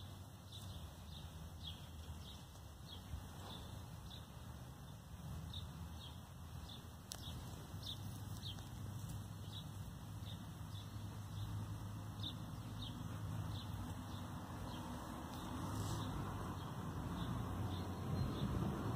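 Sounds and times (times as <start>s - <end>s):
songbird chirping: 0.0s - 18.9s.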